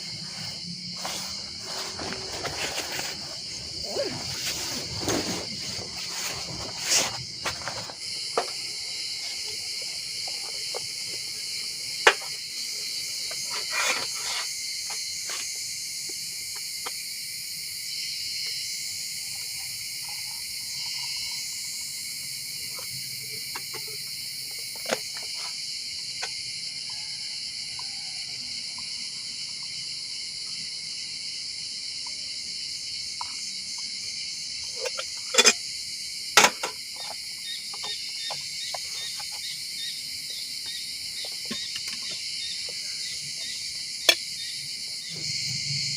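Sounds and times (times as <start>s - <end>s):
insects chorus: 0.0s - 45.9s.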